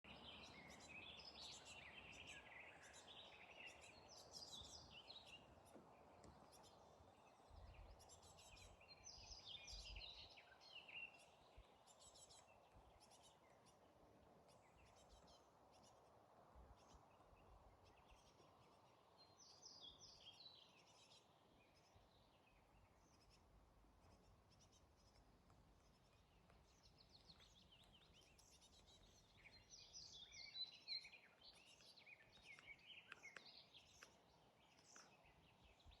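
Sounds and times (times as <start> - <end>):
faint songbird chirping: 0.0 - 36.0
soft outdoor background: 0.0 - 36.0.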